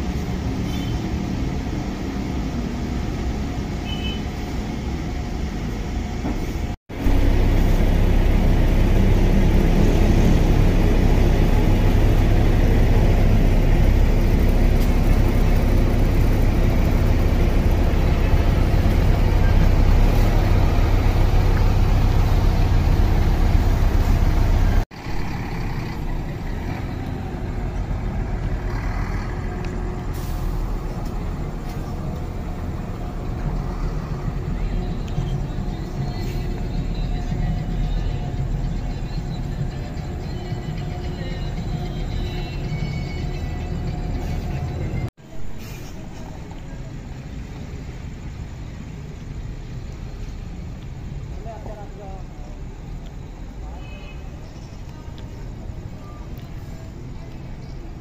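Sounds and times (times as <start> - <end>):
bus engine running: 0.0 - 53.8.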